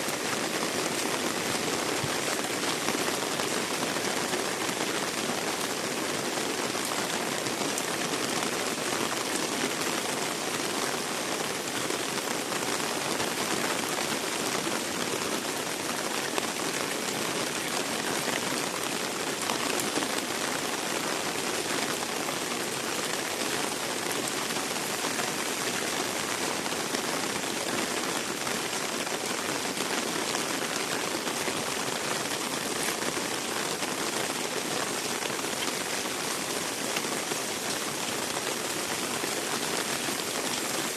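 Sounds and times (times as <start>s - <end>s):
heavy rain on wet surfaces: 0.0s - 40.9s.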